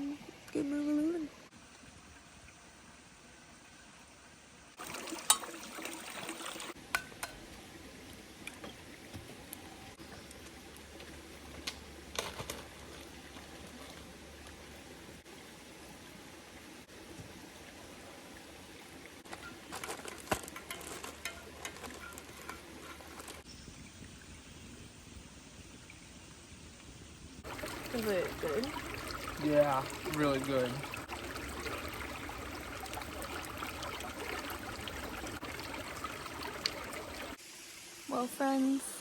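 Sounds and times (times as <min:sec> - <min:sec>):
liquid trickling and pouring: 0:01.5 - 0:24.8, 0:25.7 - 0:38.3.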